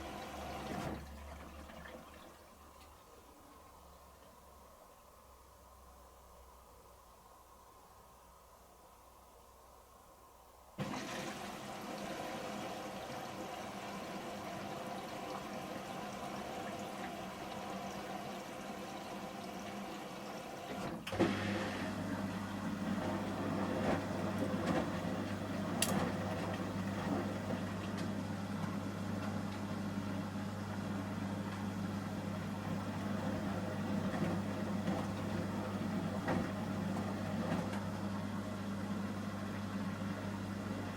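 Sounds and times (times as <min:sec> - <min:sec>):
water rushing into washing machine: 0:00.0 - 0:03.5, 0:10.8 - 0:40.9.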